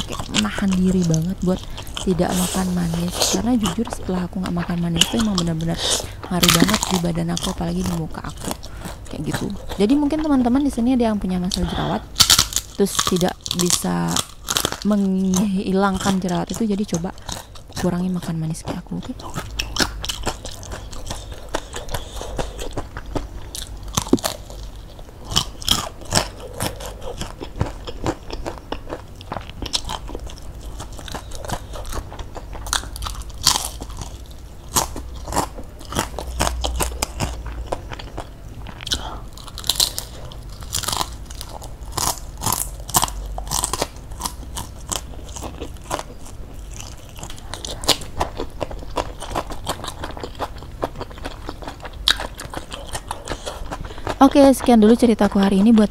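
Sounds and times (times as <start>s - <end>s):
crunching fried chicken: 0.0s - 10.8s, 11.4s - 55.8s.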